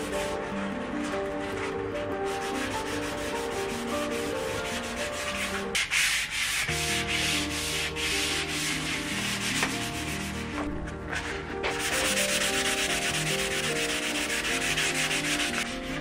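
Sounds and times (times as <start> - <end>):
background music with held notes: 0.0 - 16.0
pad scrubbing painted metal: 0.0 - 16.0.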